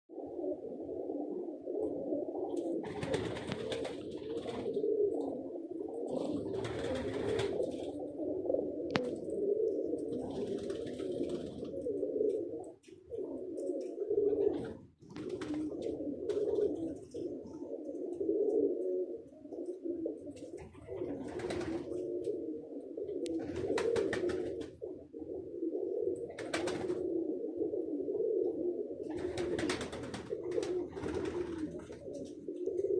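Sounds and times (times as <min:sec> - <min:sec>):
pigeons cooing: 0:00.1 - 0:32.9.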